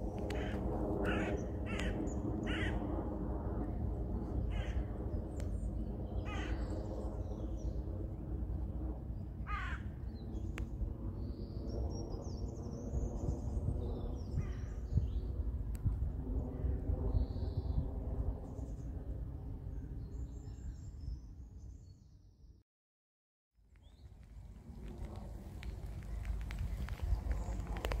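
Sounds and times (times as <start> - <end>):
jet airliner drone: 0.0 - 21.4, 24.3 - 28.0.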